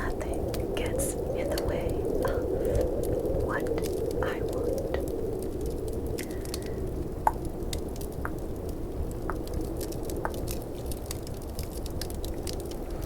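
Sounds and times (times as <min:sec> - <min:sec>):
fireplace crackling: 0:00.0 - 0:13.0
snowstorm wind: 0:00.0 - 0:13.0.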